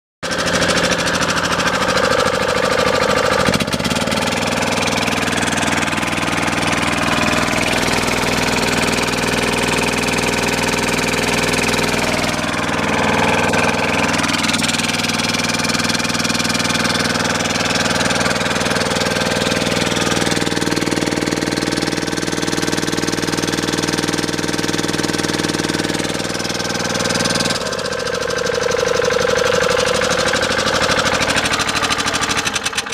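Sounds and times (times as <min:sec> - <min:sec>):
small petrol engine running: 0:00.2 - 0:32.9.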